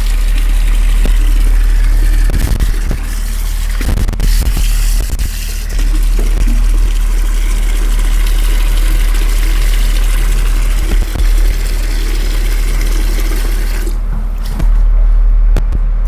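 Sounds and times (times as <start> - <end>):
motor running: 0.0 - 15.6.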